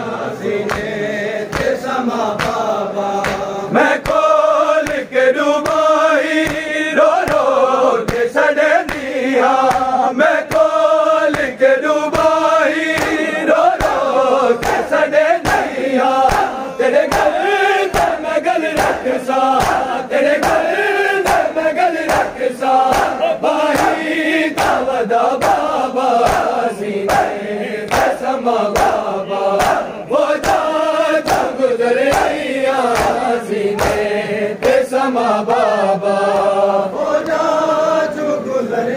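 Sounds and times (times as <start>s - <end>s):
men chanting in unison: 0.0s - 38.9s
hands slapping on chests: 0.6s - 35.7s, 36.3s - 37.5s.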